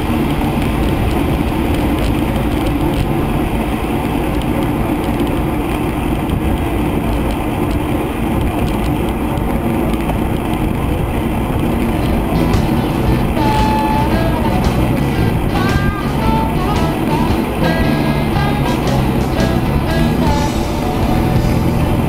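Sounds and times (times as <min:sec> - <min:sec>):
bicycle road noise: 0:00.0 - 0:22.0
wind noise on microphone: 0:00.0 - 0:22.0.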